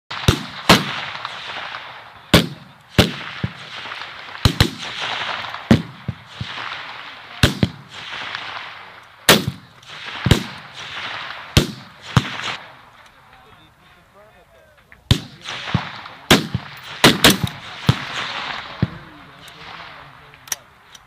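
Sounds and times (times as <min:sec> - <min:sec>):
rifle shots: 0:00.1 - 0:13.0, 0:15.0 - 0:21.0
gunshot echo rolling back: 0:00.1 - 0:13.5, 0:14.8 - 0:21.0.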